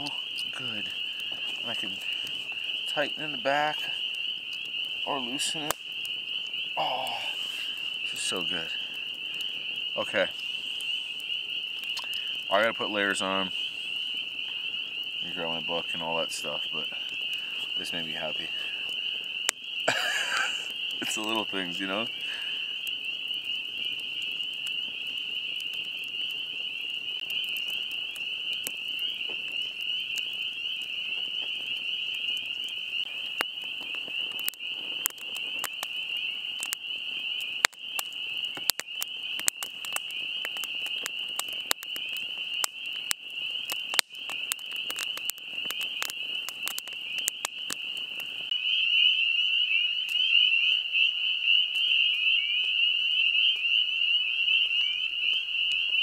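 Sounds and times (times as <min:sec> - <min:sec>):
sharp clicks and crackles: 0:00.0 - 0:15.5, 0:16.4 - 0:48.6
frogs trilling in chorus: 0:00.0 - 0:56.0.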